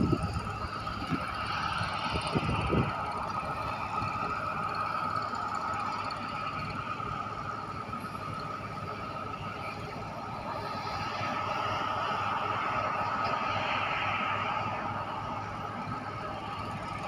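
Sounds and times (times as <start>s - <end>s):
steady hydraulic whine: 0.0s - 17.0s
tractor engine running: 0.0s - 17.0s.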